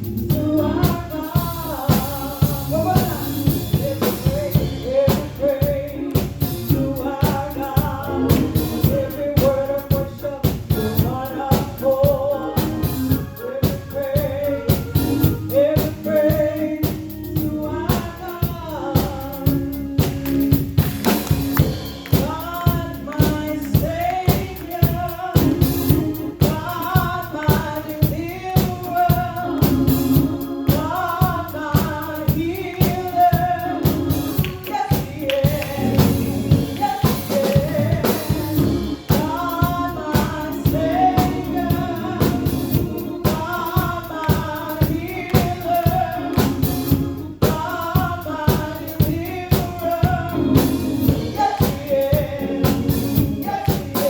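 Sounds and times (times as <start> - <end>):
gospel band playing: 0.0 - 54.0
singers singing: 0.0 - 54.0
tambourine beat: 0.0 - 54.0.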